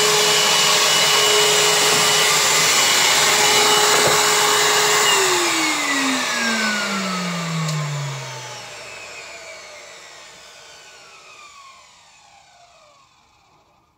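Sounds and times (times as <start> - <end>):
vacuum cleaner motor spinning down: 0.0 - 13.9.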